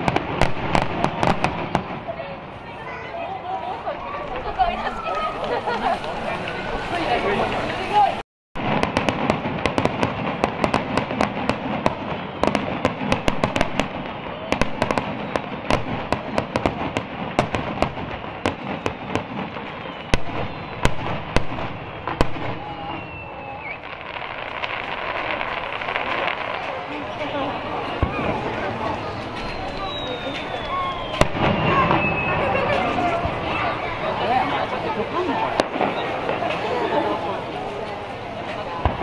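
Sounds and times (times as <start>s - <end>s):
fireworks crackling and banging: 0.0s - 39.0s.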